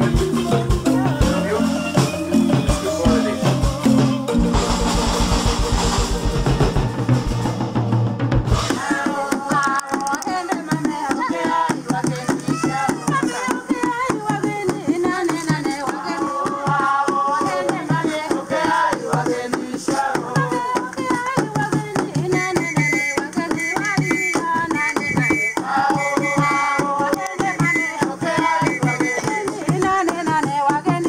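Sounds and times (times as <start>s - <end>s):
group of voices singing: 0.0s - 31.0s
hand drums beating: 0.0s - 31.0s.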